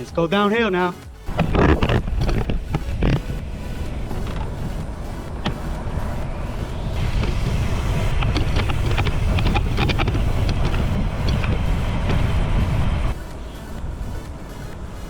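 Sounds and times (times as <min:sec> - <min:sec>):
sharp ticks and clicks: 0:01.2 - 0:15.0
wind buffeting microphone: 0:01.2 - 0:15.0.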